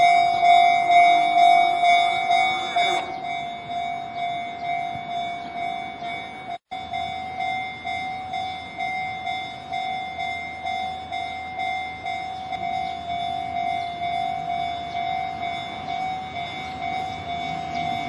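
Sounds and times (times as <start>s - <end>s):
level crossing warning bell: 0.0s - 18.0s.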